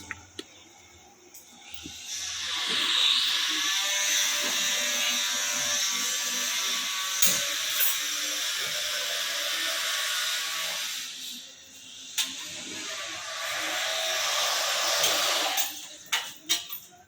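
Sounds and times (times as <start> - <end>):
small electric motor with airy hiss: 0.7 - 16.0.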